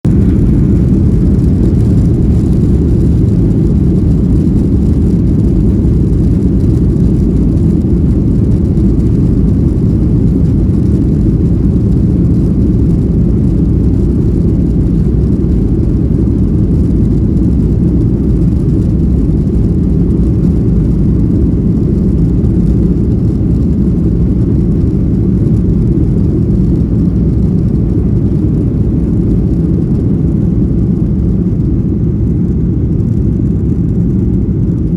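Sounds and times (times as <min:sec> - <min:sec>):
airliner engines rumbling in cabin: 0:00.0 - 0:34.9.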